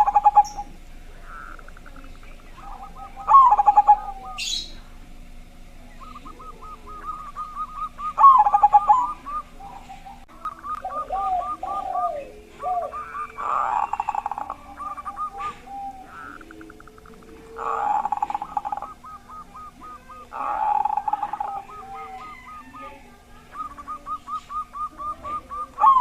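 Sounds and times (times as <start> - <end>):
doves cooing: 0.0 - 26.0.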